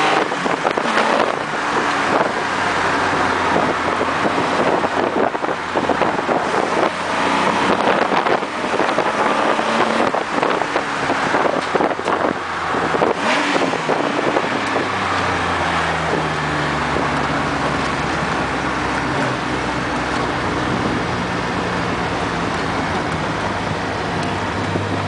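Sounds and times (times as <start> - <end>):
car engine running: 0.0 - 25.0
road and wind noise: 0.0 - 25.0.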